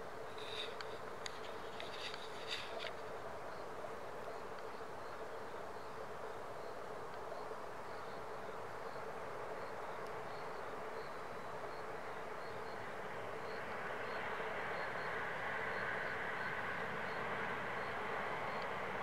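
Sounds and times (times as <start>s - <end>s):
distant train hum and hiss: 0.0s - 19.0s.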